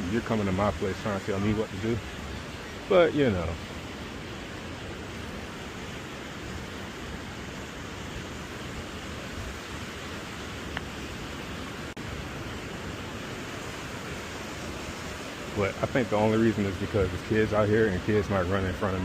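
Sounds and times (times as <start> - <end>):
wind rushing on microphone: 0.0 - 19.0.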